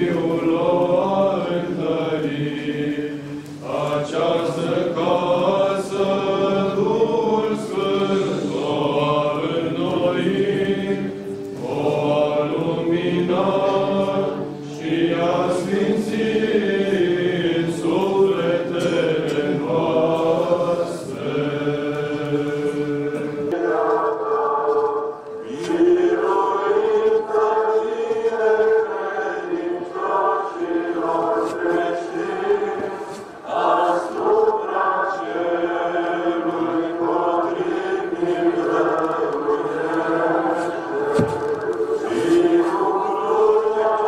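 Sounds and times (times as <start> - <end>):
clergy chanting a hymn: 0.0 - 44.0.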